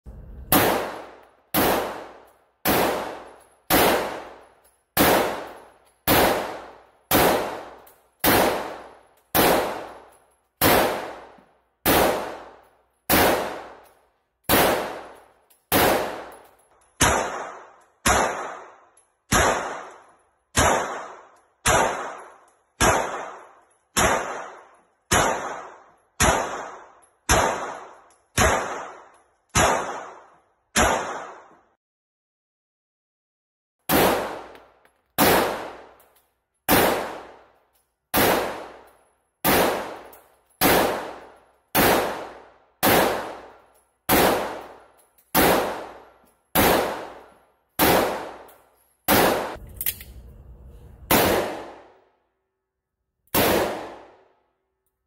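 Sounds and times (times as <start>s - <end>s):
pistol shots with echo: 0.4s - 31.7s, 33.9s - 50.4s, 51.0s - 52.1s, 53.3s - 54.4s.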